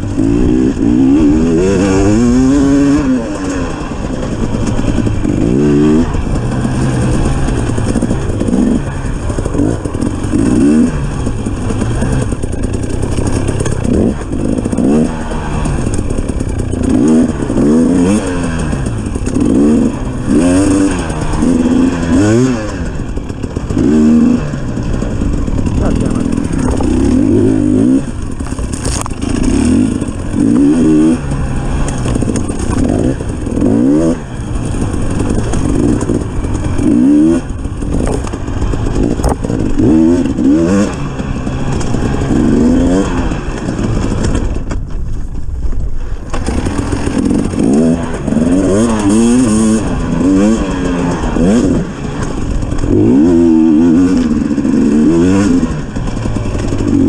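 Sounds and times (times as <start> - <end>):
dirt bike engine revving: 0.0 - 44.9, 46.1 - 57.0.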